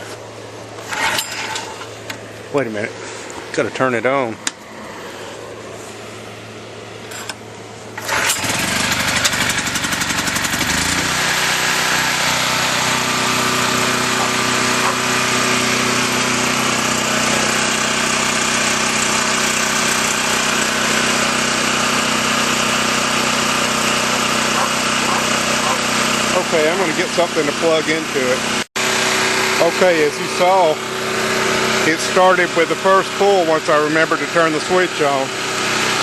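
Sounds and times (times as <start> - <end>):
generator engine pull-starting: 0.0 - 2.3, 6.2 - 36.0
generator engine running: 0.0 - 36.0.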